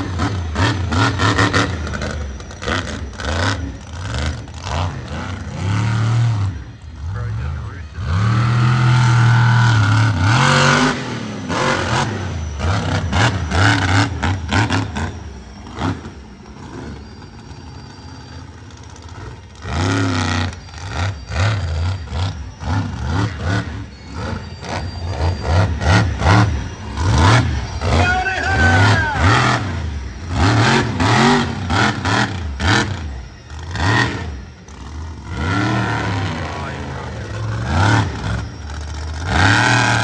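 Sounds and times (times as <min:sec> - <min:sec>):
monster truck engine revving: 0:00.0 - 0:40.0.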